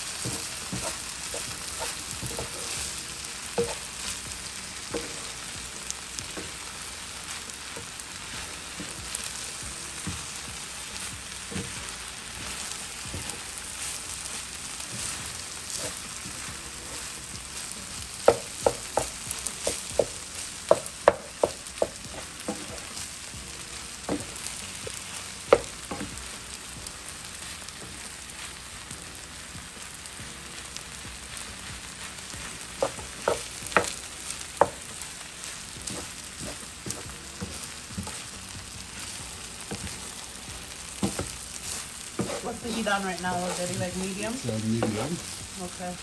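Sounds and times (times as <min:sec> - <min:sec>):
fried rice sizzling in a pan: 0:00.0 - 0:46.0.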